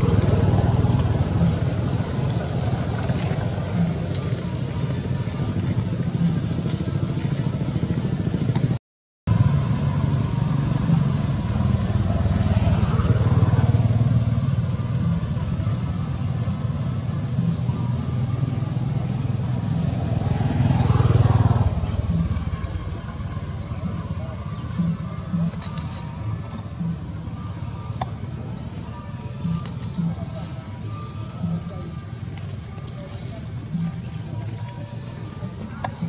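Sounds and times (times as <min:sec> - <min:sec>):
low motor rumble: 0:00.0 - 0:36.0.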